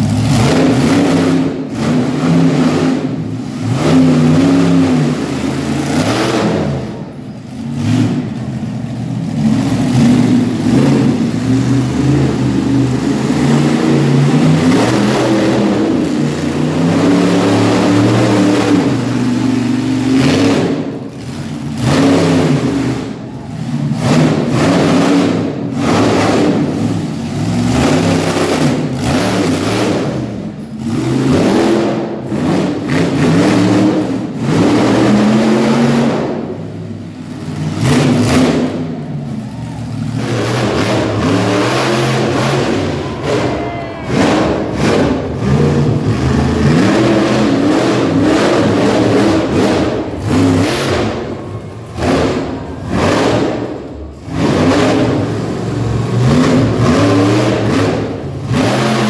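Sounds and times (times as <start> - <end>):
monster truck engine revving: 0.0 - 59.0.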